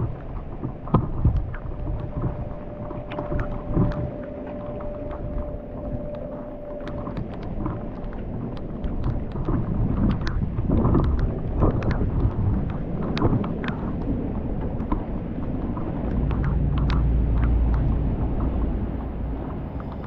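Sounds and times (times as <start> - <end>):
raindrops ticking: 0.0 - 20.0
thunder rumbling: 0.0 - 20.0.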